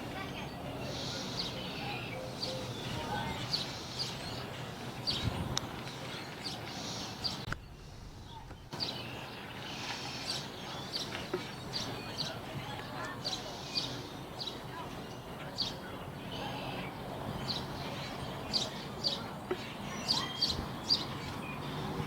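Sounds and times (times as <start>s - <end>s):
low outdoor background hum: 0.0s - 22.0s
small birds chirping: 0.0s - 22.0s.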